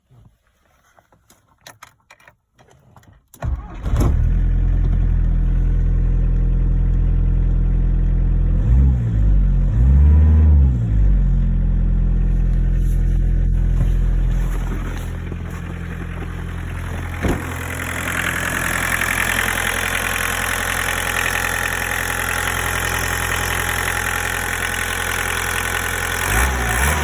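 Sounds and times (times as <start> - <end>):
car engine starting and idling: 3.4 - 27.0.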